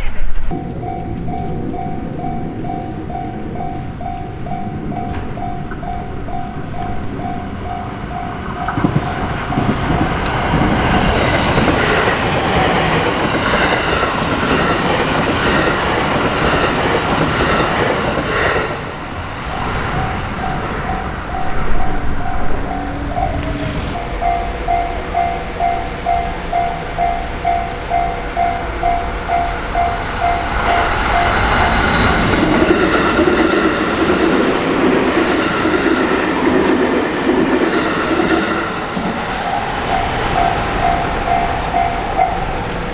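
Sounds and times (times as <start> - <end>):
train rumbling and wheel clatter: 0.0 - 42.9
crossing warning bell ringing: 0.5 - 42.9.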